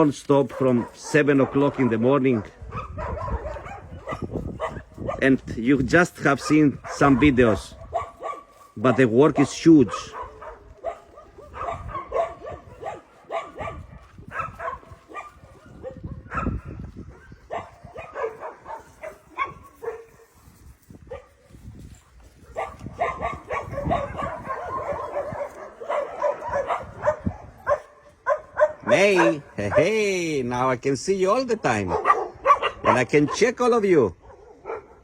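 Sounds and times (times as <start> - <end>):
young dogs barking and yipping: 0.0 - 5.4, 6.1 - 35.0.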